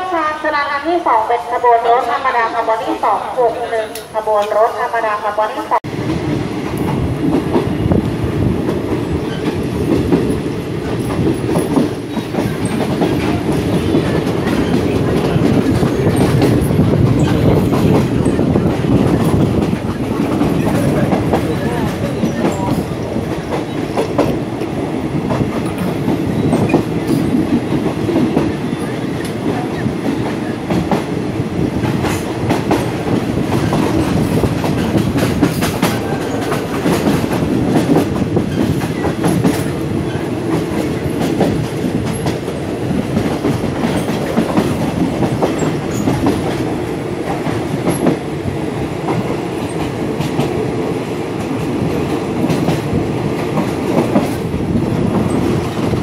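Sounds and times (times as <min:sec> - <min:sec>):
train rumble: 0:00.0 - 0:56.0
train wheels clacking on rails: 0:05.9 - 0:56.0.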